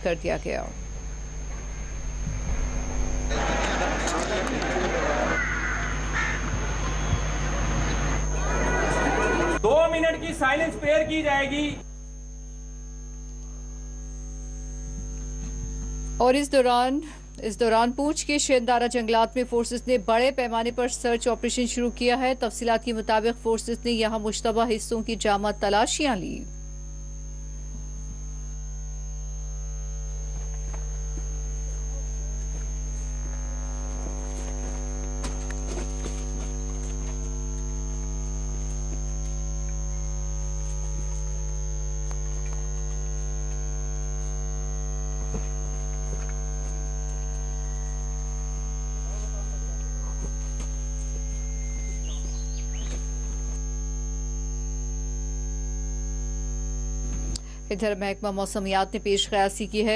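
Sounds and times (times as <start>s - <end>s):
electrical mains hum: 0.0s - 59.9s
high-pitched whine: 0.0s - 59.9s.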